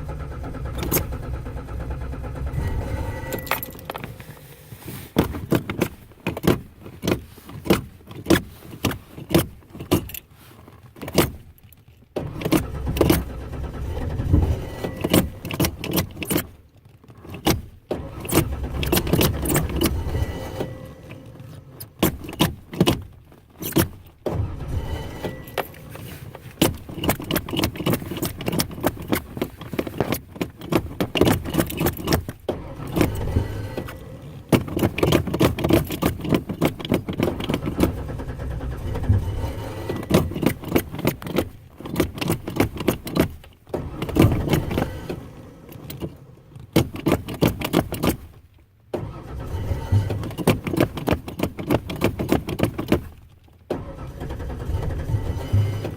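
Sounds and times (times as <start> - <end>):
starter cranking engine: 0.0 - 10.2, 10.8 - 16.7, 17.3 - 48.4, 49.0 - 55.9.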